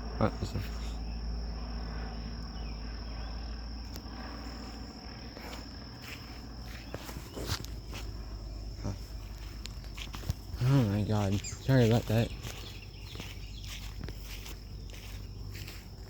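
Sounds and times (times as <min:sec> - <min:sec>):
insects calling: 0:00.0 - 0:16.0
low wind rumble: 0:00.0 - 0:16.0
footsteps on a trail: 0:03.1 - 0:16.0.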